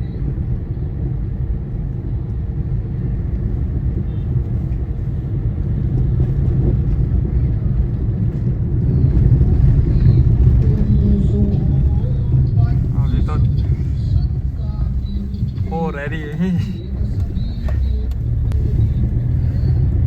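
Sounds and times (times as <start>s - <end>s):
car rumble from inside cabin: 0.0s - 20.0s.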